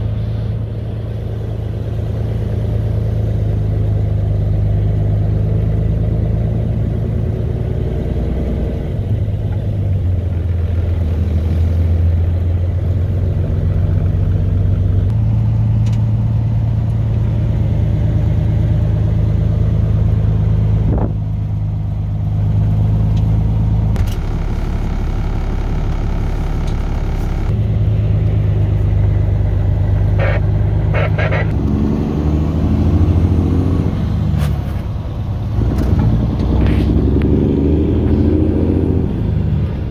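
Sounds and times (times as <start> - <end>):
truck diesel engine shifting gears: 0.0 - 39.9.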